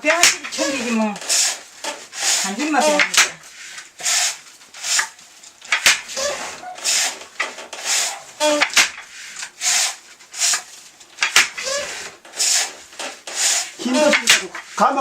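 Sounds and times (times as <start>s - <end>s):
wooden loom rubbing strokes: 0.0s - 15.0s.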